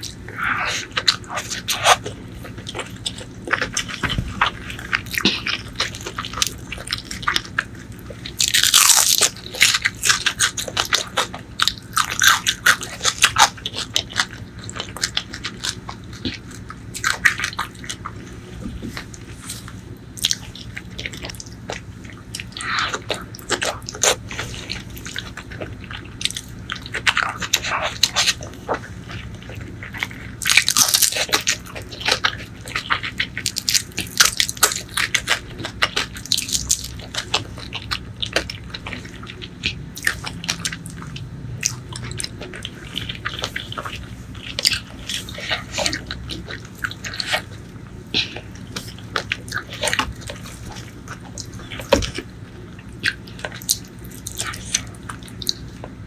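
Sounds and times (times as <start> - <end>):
wet chewing and crunching: 0.0 - 56.0.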